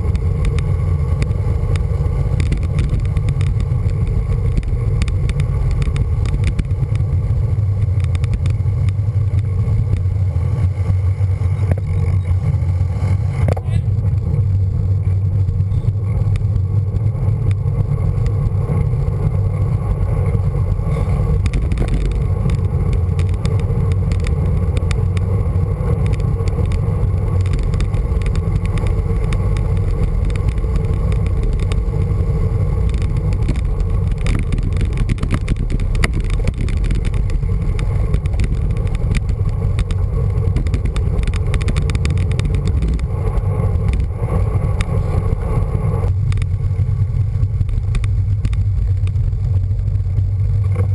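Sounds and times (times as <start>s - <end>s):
tyre and road noise: 0.0s - 50.9s
wind rumble on microphone: 0.0s - 50.9s.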